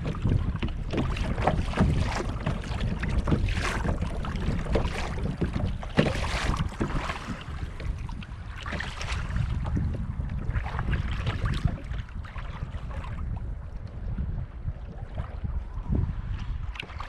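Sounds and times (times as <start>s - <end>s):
paddle strokes splashing water: 0.0s - 17.0s
wind on microphone: 0.0s - 17.0s.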